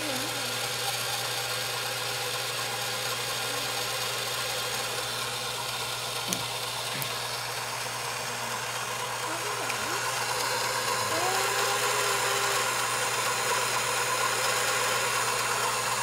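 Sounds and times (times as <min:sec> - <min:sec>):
small electric motor humming: 0:00.0 - 0:16.0.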